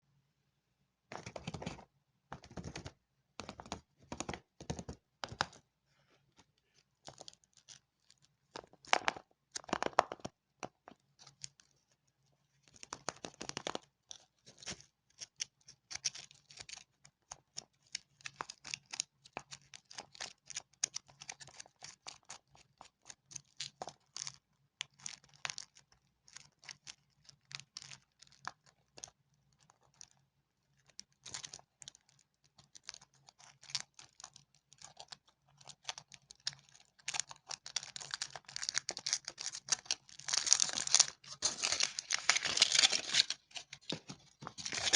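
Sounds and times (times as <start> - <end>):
candy wrappers crinkling: 6.8 - 44.9.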